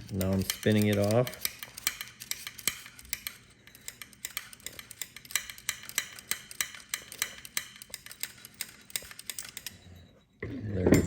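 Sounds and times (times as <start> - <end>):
rapid metallic clicking: 0.0 - 9.7.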